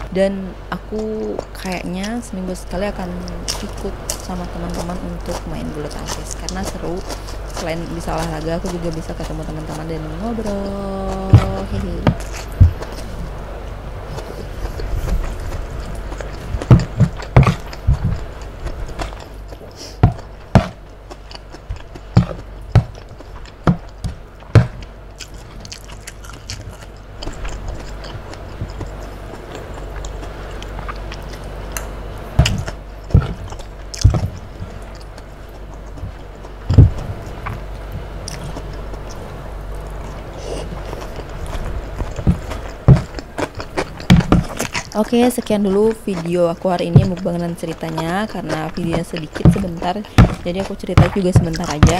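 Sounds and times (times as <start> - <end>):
chewing and mouth sounds: 0.0 - 51.9.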